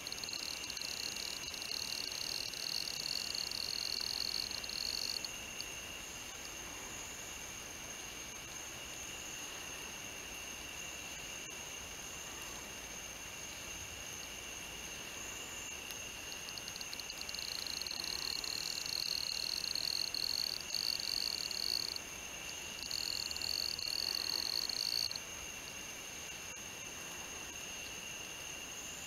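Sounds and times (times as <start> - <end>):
chorus of night insects: 0.0 - 29.0
high-pitched insect trill: 0.0 - 29.0.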